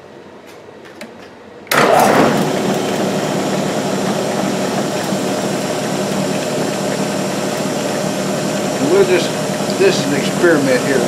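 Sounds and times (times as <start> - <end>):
milling machine motor hum: 1.7 - 11.0.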